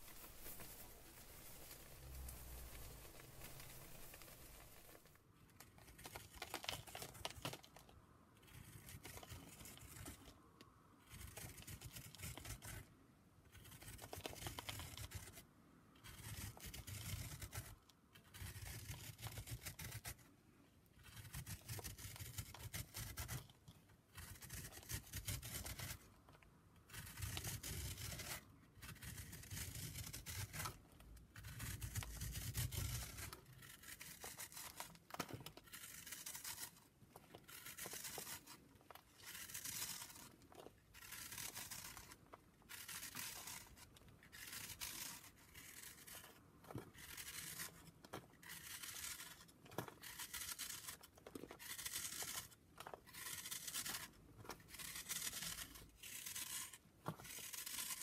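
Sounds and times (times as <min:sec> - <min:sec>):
chalk block being shaved: 0:00.0 - 0:10.3, 0:11.0 - 0:12.9, 0:13.5 - 0:20.4, 0:21.0 - 0:26.2, 0:26.9 - 0:58.0.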